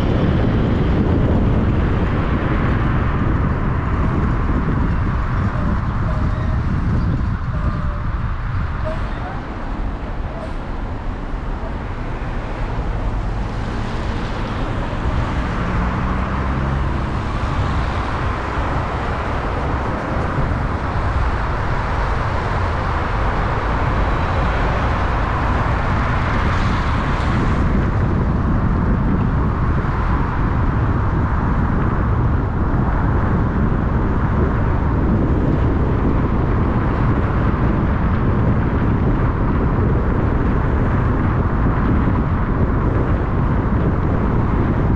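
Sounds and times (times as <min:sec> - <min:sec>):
car road noise: 0:00.0 - 0:44.9.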